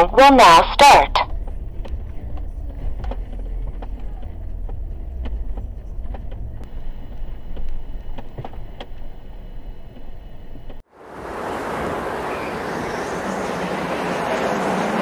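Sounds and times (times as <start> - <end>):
truck road rumble: 0.0 - 15.0.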